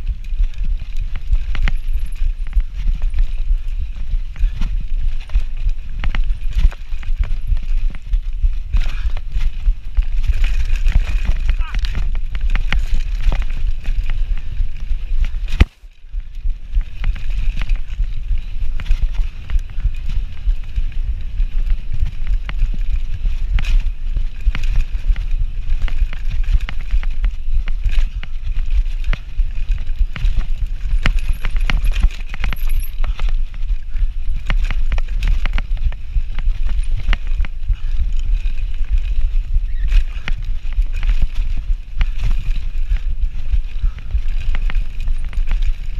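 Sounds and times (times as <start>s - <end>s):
bike clattering over bumps: 0.0s - 45.9s
bike tyre noise on dirt: 0.0s - 45.9s
wind buffeting microphone: 0.0s - 45.9s.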